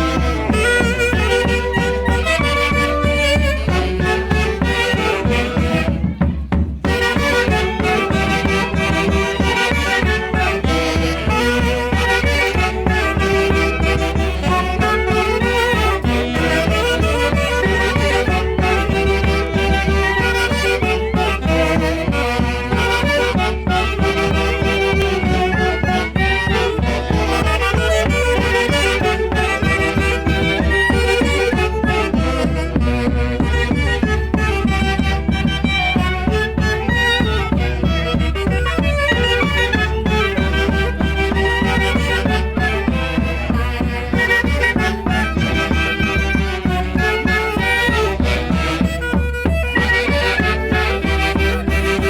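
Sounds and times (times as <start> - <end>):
folk band playing: 0.0 - 52.0.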